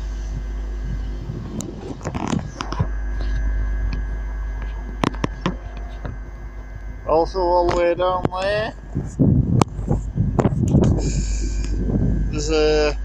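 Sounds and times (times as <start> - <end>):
deep rumble: 0.0 - 13.0
steady hum: 0.0 - 13.0.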